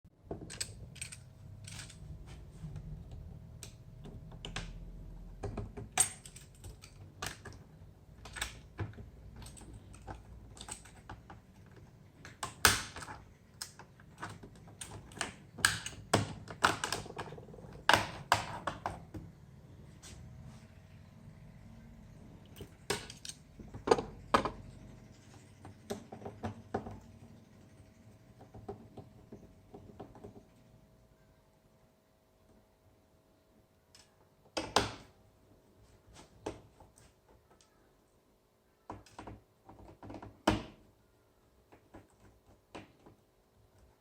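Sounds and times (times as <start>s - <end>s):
faint steady hum: 0.1s - 44.0s.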